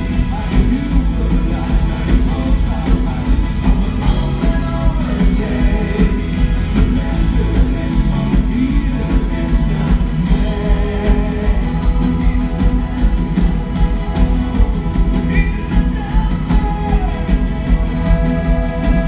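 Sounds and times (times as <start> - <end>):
drums: 0.0 - 19.0
keyboard: 0.0 - 19.0
person singing: 0.0 - 19.0.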